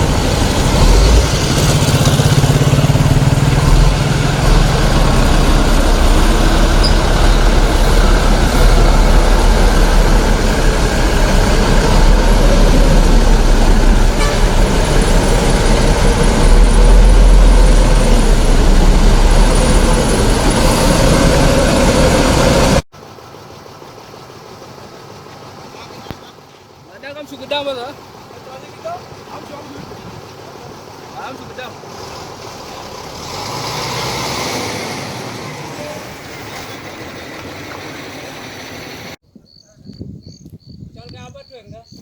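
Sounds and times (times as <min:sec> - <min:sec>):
trucks engine and road noise: 0:00.0 - 0:39.2.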